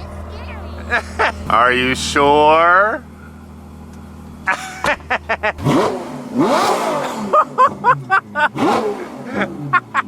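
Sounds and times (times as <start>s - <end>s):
sports car engine idling and revving: 0.0s - 10.0s.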